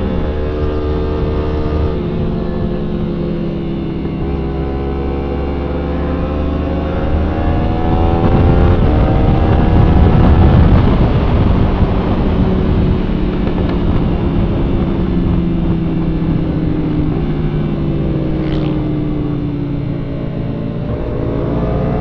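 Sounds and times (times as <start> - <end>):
motorcycle engine accelerating: 0.0 - 22.0
wind noise on microphone: 0.0 - 22.0.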